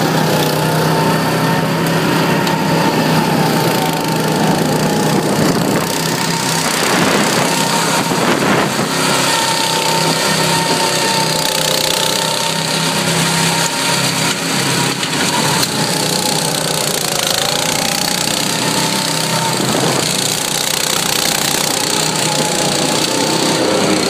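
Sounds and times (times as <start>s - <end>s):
go-kart engines running hard: 0.0s - 24.0s.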